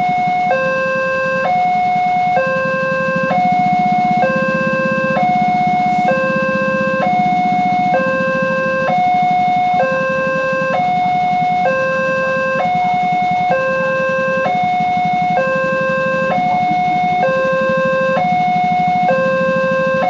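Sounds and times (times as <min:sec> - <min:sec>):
two-tone crossing alarm: 0:00.0 - 0:20.0.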